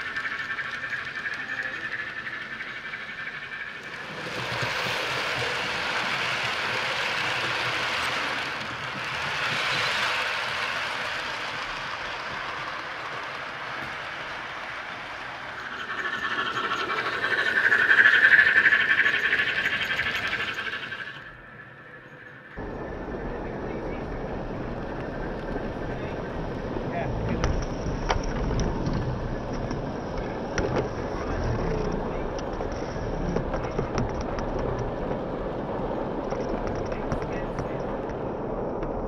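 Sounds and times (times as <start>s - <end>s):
model trains running on track: 0.0s - 39.0s.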